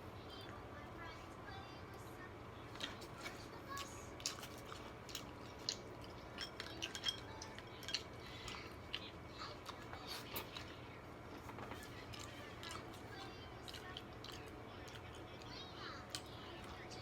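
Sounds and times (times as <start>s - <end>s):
wet chewing: 2.7s - 16.9s.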